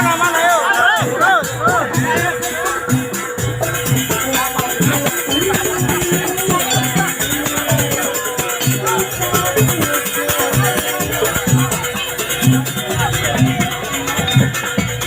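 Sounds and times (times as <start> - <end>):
drums: 0.0 - 15.0
gamelan music: 0.0 - 15.0
jingling rattle: 2.1 - 15.0.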